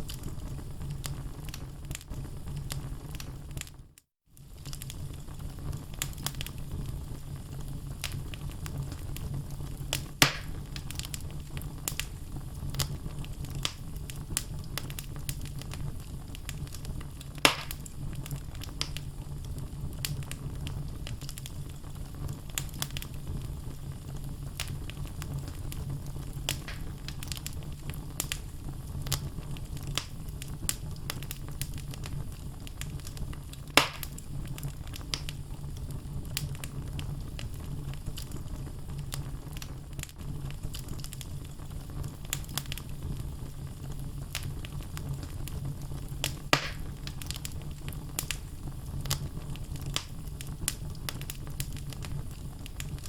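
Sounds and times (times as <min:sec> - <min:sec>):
loud fire pops: 0:00.0 - 0:03.8, 0:04.4 - 0:53.0
logs crackling in fireplace: 0:00.0 - 0:53.0
low fire rumble: 0:00.0 - 0:53.0.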